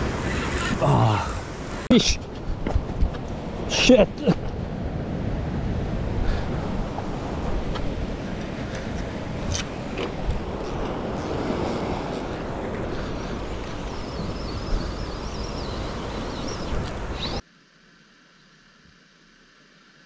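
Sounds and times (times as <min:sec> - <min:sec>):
surf washing: 0:00.0 - 0:17.4.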